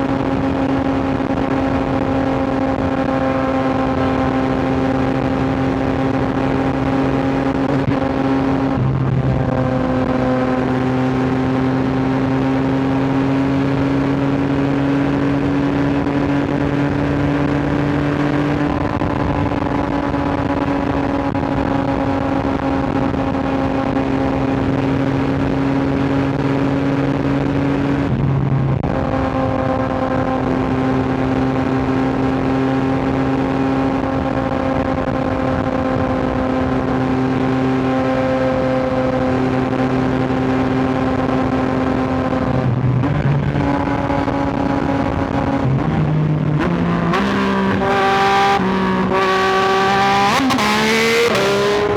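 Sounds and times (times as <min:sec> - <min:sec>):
motorcycle engine at high revs: 0:00.0 - 0:51.9.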